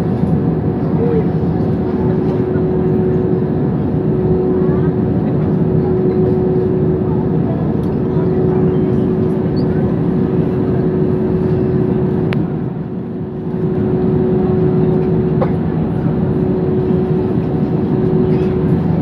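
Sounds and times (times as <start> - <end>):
aircraft engine cabin rumble: 0.0 - 19.0.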